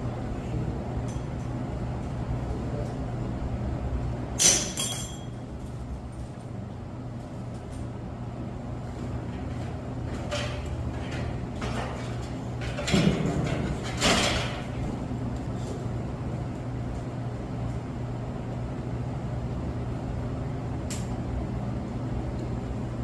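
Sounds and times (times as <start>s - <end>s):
equipment low hum: 0.0s - 23.0s.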